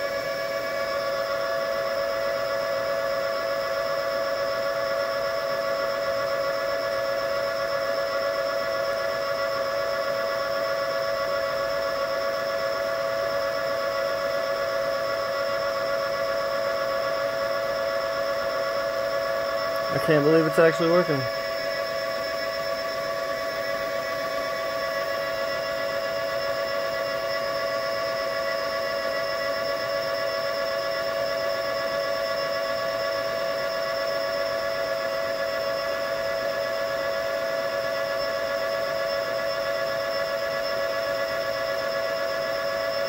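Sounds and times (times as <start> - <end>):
motor spinning alternator whine: 0.0 - 43.0.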